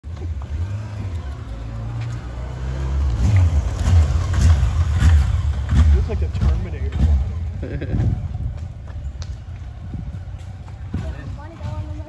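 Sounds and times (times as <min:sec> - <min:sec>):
motorcycle engine passing: 0:00.1 - 0:12.0.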